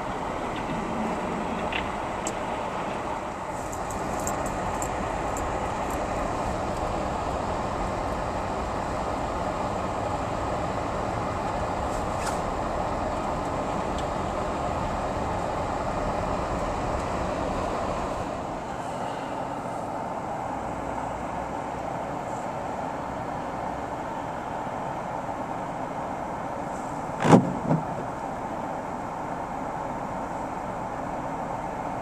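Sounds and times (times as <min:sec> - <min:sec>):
car road and tyre noise: 0:00.0 - 0:32.0.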